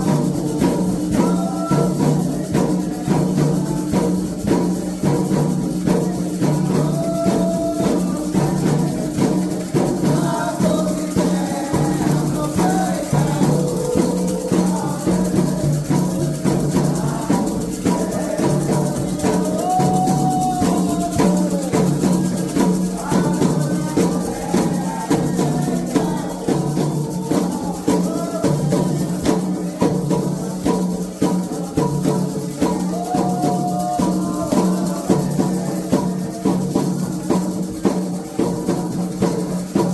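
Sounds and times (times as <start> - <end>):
chanted song: 0.0 - 39.2
hand drums: 0.0 - 39.9
rattle percussion: 0.0 - 39.9.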